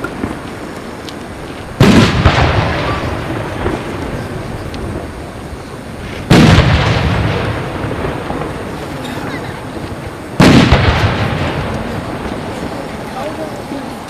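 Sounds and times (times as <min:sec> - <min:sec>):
firework display noise: 0:00.0 - 0:14.0
firework shells bursting: 0:00.0 - 0:14.0.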